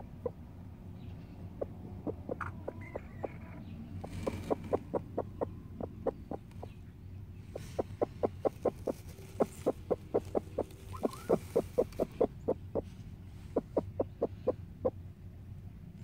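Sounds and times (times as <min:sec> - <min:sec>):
hen clucking rapidly: 0:00.0 - 0:00.5, 0:01.3 - 0:15.0.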